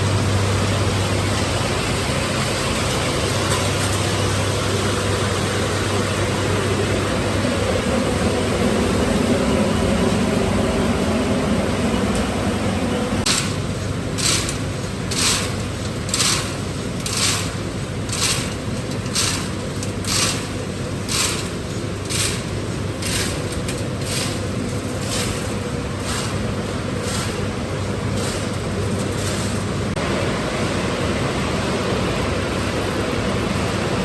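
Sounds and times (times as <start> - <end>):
crushing machinery rumble: 0.0 - 34.0.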